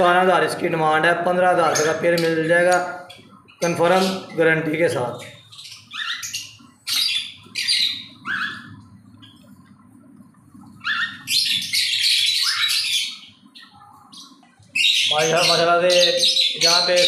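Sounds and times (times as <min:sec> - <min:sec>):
lovebirds screeching: 0:00.8 - 0:09.4, 0:10.7 - 0:17.0.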